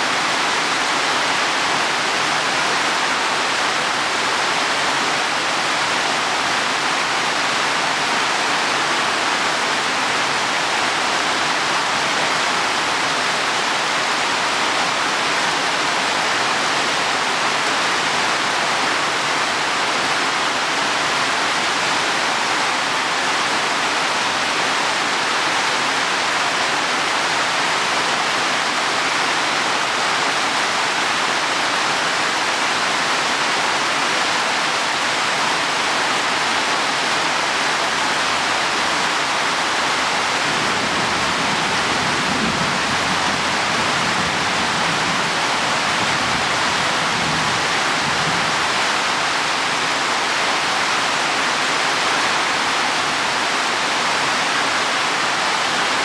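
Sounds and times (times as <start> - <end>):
heavy rain on leaves: 0.0 - 56.0.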